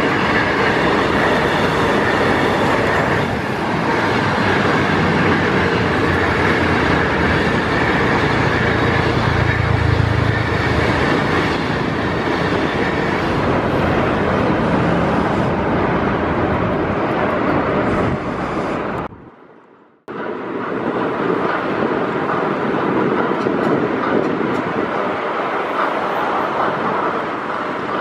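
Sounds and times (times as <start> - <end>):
train wheels rumbling: 0.0 - 19.2, 20.1 - 28.0.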